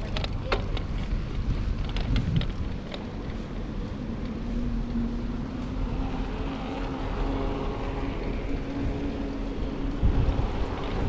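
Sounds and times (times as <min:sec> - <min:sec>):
engine hum: 0:00.0 - 0:11.0
wind buffeting microphone: 0:00.0 - 0:11.0.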